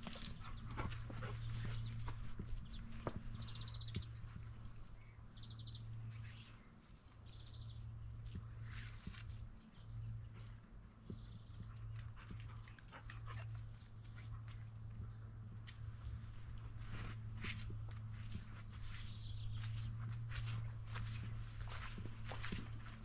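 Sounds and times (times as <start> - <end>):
footsteps on grass: 0.0 - 12.4, 15.1 - 23.0
steady low hum: 0.0 - 23.0.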